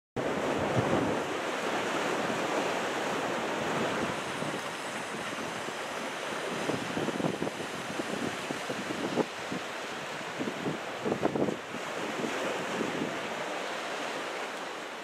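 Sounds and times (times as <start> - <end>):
wind buffeting microphone: 0.2 - 13.3.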